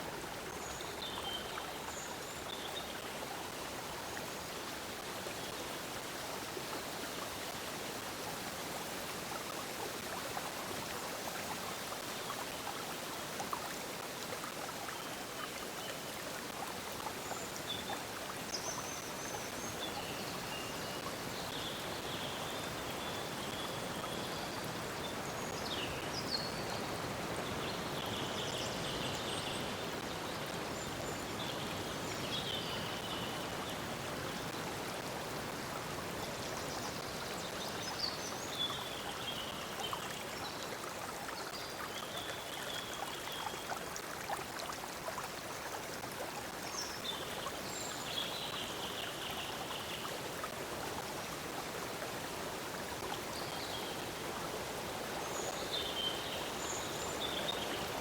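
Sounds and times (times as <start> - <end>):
stream flowing over stones: 0.0 - 58.0.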